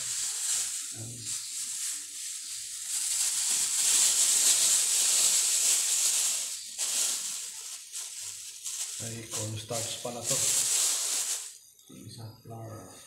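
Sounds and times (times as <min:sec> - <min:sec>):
plastic bag rustling and crinkling: 0:00.0 - 0:11.7.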